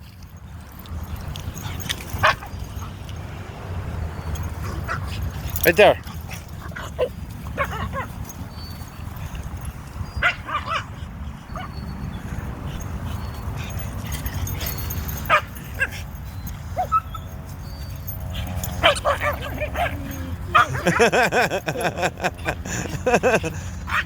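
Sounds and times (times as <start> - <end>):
dogs barking and yipping: 0.0 - 24.0.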